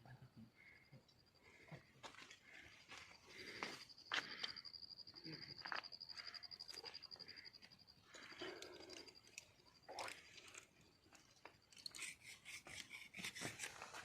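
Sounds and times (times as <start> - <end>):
high insect trill: 0.1 - 14.0.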